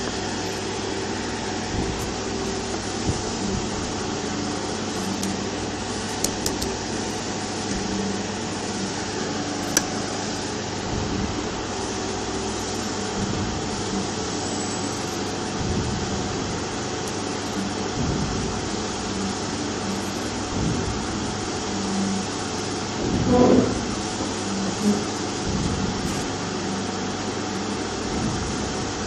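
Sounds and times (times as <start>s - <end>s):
hot air fan rushing: 0.0s - 29.0s.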